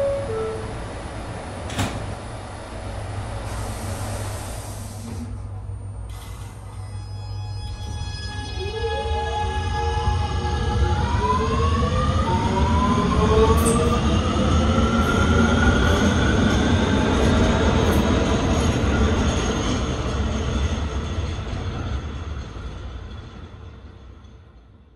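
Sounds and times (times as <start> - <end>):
subway train propulsion whine: 0.0 - 24.9.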